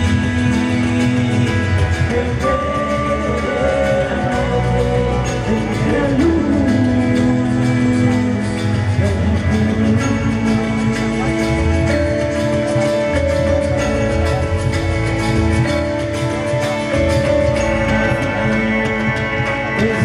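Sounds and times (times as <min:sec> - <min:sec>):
live band playing slow song: 0:00.0 - 0:20.0.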